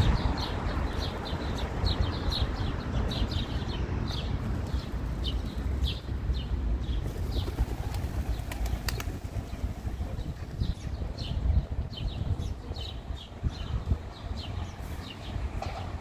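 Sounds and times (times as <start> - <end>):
small birds chirping: 0.2 - 15.8.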